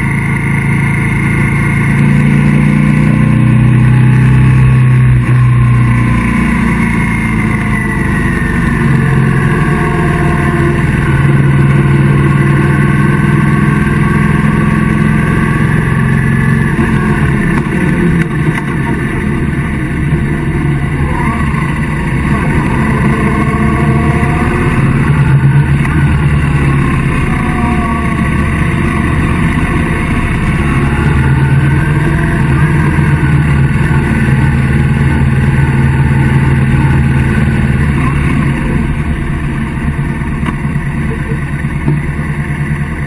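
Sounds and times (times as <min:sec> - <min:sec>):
motorcycle engine running: 0:00.0 - 0:43.0
road and wind noise: 0:00.0 - 0:43.0.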